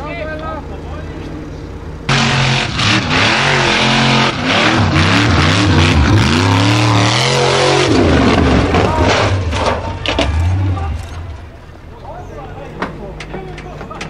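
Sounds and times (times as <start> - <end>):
buggy engine revving: 0.6 - 14.0.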